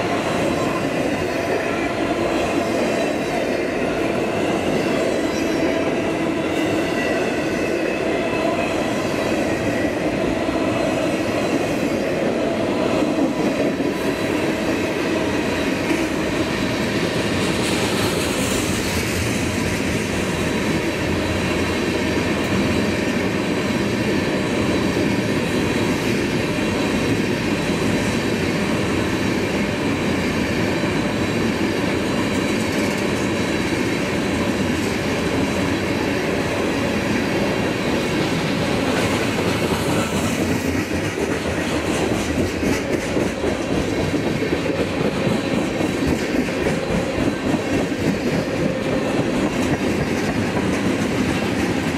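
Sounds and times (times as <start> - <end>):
freight train wheels on rails: 0.0 - 51.9.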